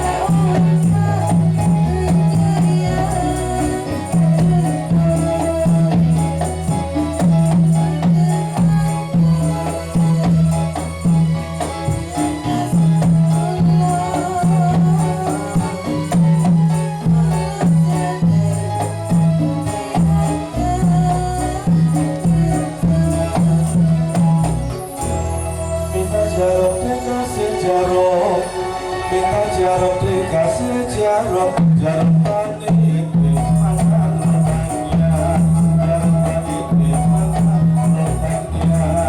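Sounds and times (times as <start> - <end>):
drums steady beat: 0.0 - 25.2, 31.5 - 39.0
jingling tambourine percussion: 0.0 - 27.7, 31.6 - 39.0.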